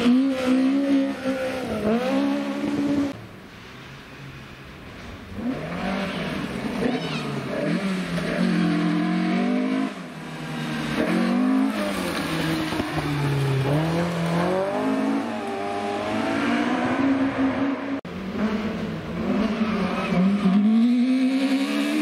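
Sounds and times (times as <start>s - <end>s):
rally car engine revving: 0.0s - 3.2s, 5.4s - 22.0s.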